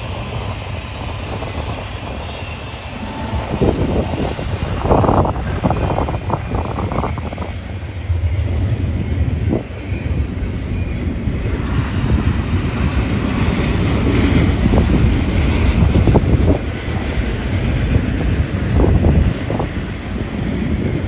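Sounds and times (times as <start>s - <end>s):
freight train wheels rumbling: 0.0s - 21.0s
wind buffeting microphone: 0.0s - 21.0s.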